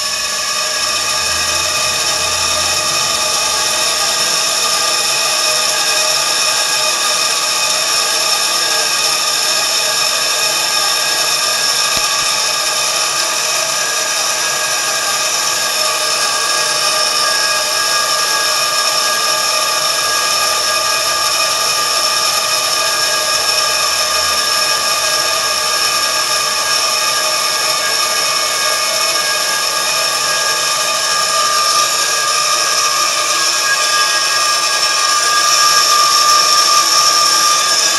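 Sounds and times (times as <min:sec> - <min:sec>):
air compressor whining: 0:00.0 - 0:37.9.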